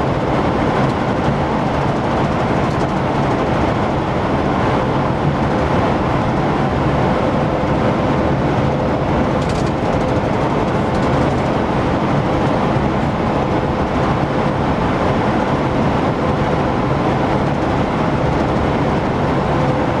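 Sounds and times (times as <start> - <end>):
vehicle road and engine noise: 0.0 - 20.0.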